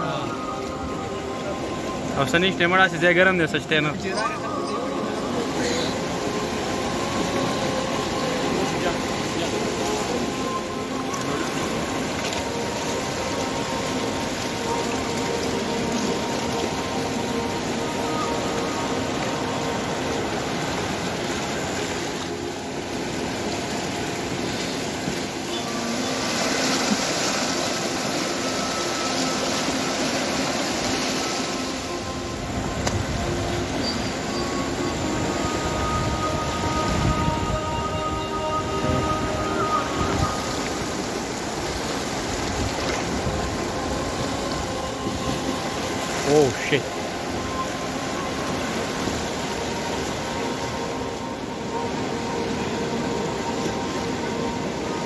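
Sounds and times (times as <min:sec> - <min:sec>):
river rushing: 0:00.0 - 0:55.0.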